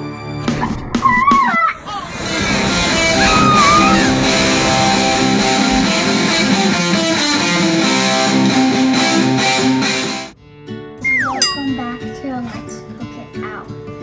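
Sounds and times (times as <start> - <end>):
instrumental rock music: 2.4 - 13.9.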